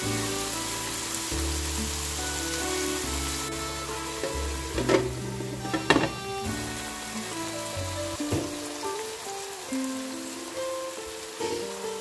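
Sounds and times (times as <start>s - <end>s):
background music with low notes: 0.0s - 12.0s
vegetables sizzling in oil: 0.0s - 12.0s.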